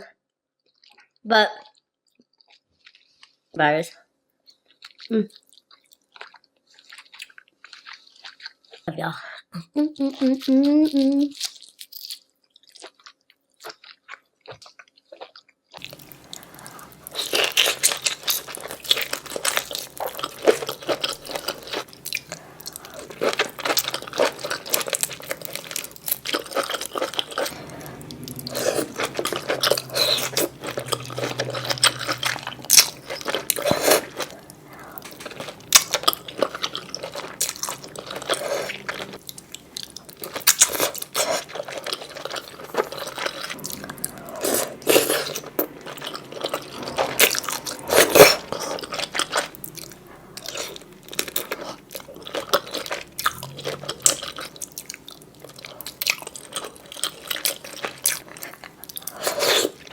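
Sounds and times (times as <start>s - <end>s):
wet chewing and crunching: 0.6s - 3.6s, 4.4s - 59.9s.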